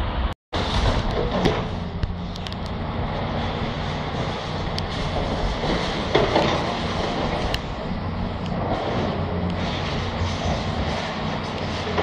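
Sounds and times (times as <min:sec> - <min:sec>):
low rumble of road traffic: 0:00.0 - 0:12.0
wind on microphone: 0:00.0 - 0:12.0.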